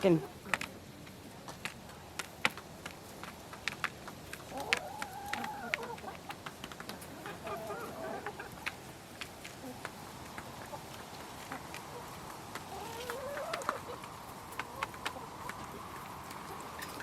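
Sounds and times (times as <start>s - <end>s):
beaks pecking at food: 0.0s - 17.0s
chickens clucking: 0.1s - 17.0s
drawn-out chicken calls: 3.0s - 17.0s.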